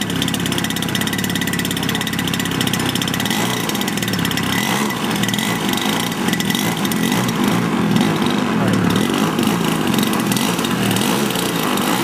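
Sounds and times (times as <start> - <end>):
model plane engine idling: 0.0 - 12.0.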